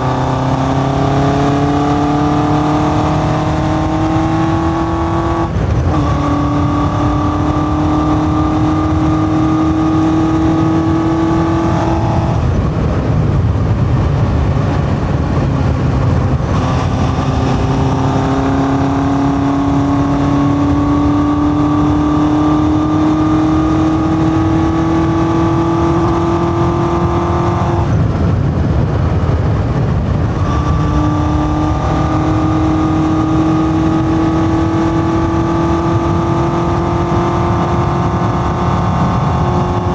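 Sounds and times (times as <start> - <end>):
wind and road rush: 0.0 - 39.9.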